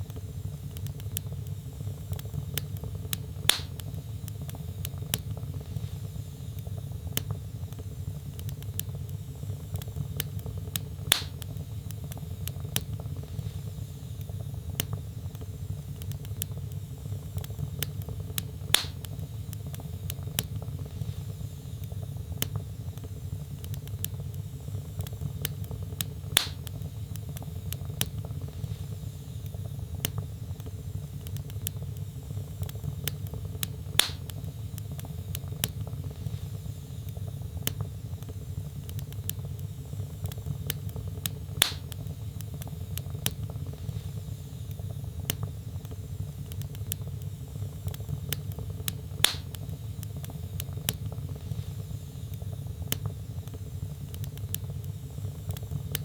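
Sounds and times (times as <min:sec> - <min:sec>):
fire crackles and pops: 0:00.0 - 0:56.0
wood fire burning: 0:00.0 - 0:56.0.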